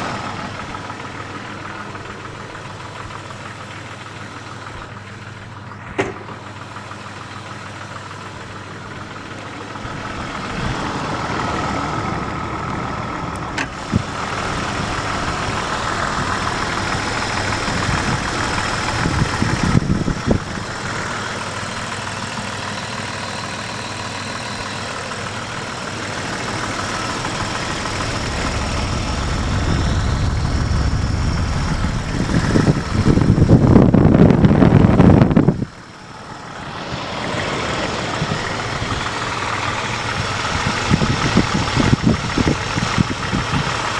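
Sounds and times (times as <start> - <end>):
engine idling with knocking: 0.0 - 43.9.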